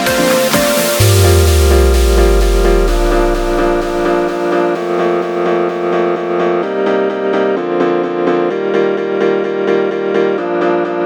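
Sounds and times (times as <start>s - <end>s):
piano repeated chords: 0.0s - 11.0s.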